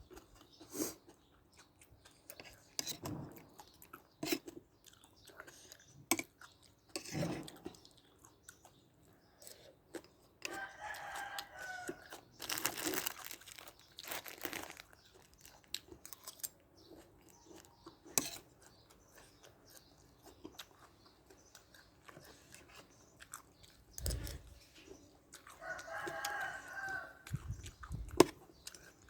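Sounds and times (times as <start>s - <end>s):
chewing crisp food: 0.0s - 29.0s.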